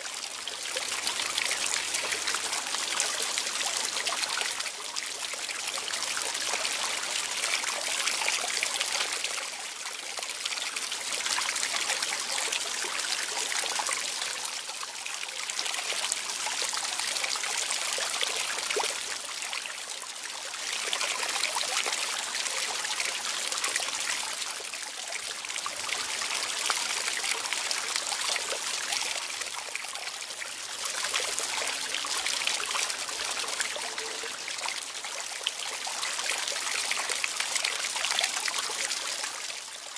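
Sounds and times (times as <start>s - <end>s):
trickle of running water: 0.0s - 39.9s.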